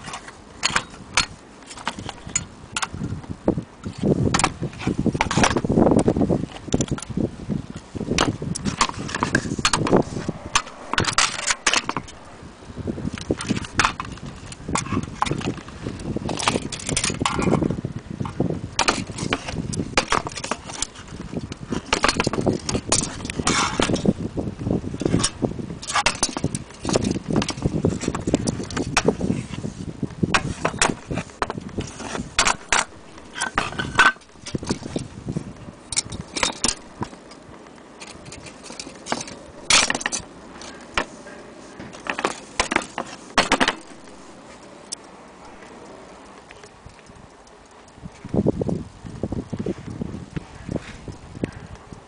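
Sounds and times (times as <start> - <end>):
low background rumble: 0.0 - 52.0.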